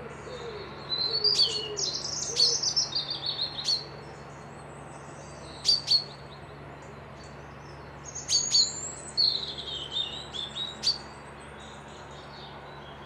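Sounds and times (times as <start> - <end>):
songbirds chirping and warbling: 0.0 - 13.0
steady low hum: 0.0 - 13.0.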